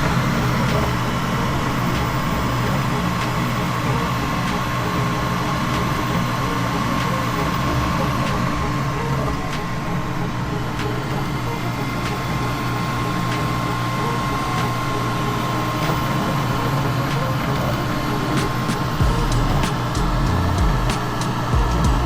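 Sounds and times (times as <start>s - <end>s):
printer motors and fans whirring: 0.0s - 22.0s.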